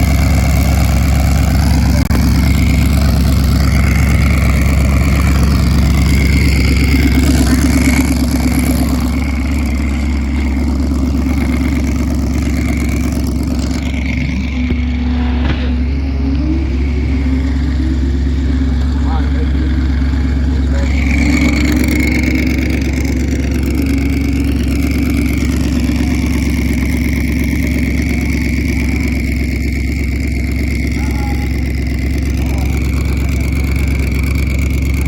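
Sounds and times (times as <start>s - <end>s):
car engine running loud: 0.0s - 35.0s.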